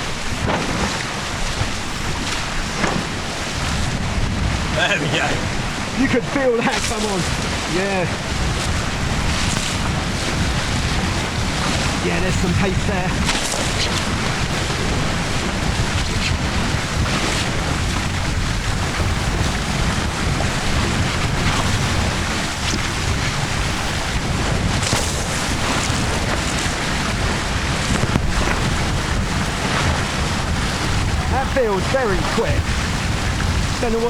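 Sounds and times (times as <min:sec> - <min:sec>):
water rushing past hulls: 0:00.0 - 0:34.0
wind buffeting microphone: 0:00.0 - 0:34.0.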